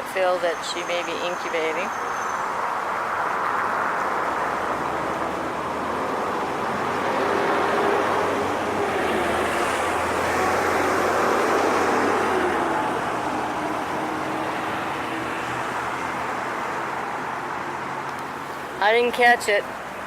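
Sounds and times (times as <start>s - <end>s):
car passing: 0.0s - 20.0s.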